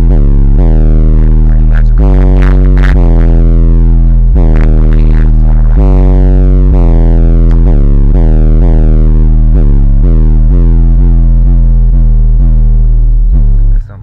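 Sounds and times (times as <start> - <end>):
bass-heavy hip-hop music: 0.0 - 14.0.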